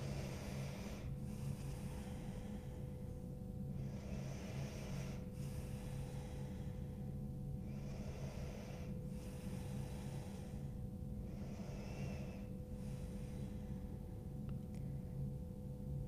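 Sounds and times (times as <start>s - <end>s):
faint low hum: 0.0s - 16.0s
woman breathing slowly: 0.0s - 16.0s.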